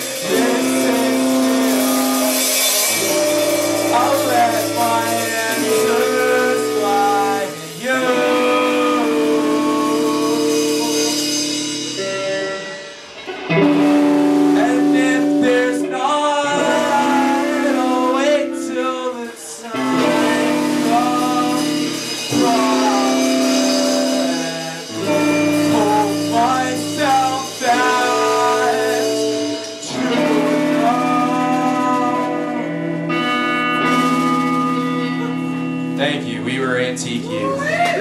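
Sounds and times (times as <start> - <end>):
guitar chords: 0.0 - 38.0
person singing: 0.0 - 38.0.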